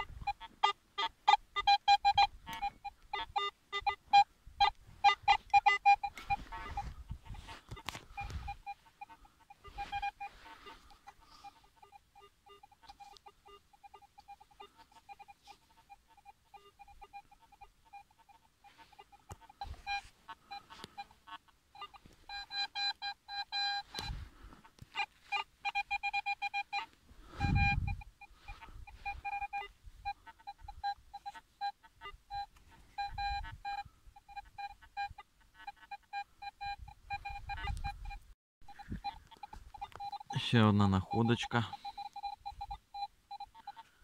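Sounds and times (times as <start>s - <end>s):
metal detector beeping: 0.0s - 44.0s.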